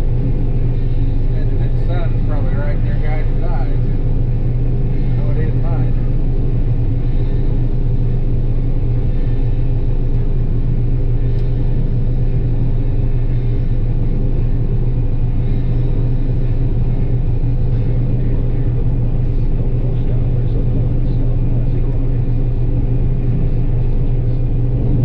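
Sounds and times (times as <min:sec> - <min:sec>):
combine harvester engine droning: 0:00.0 - 0:25.0.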